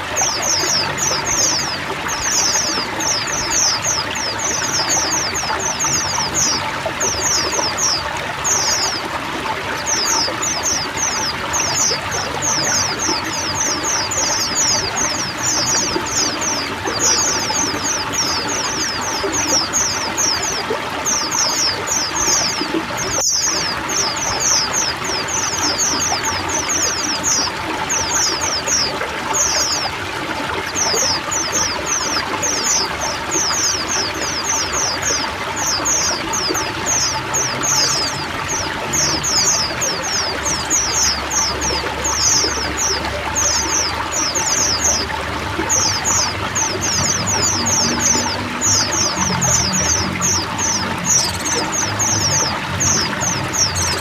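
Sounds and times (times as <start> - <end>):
birds chirping: 0.0 - 54.0
running water: 0.0 - 54.0.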